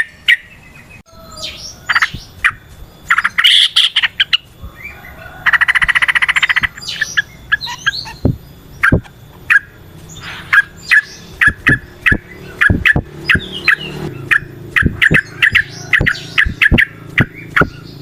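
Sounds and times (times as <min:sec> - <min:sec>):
bulbul singing: 0:00.0 - 0:18.0.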